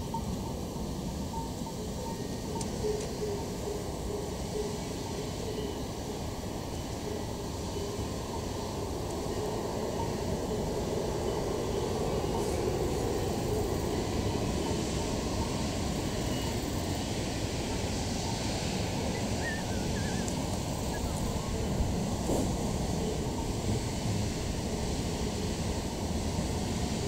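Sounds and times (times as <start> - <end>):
steam hissing: 0.0 - 27.0
steam locomotive rumbling: 0.0 - 27.0.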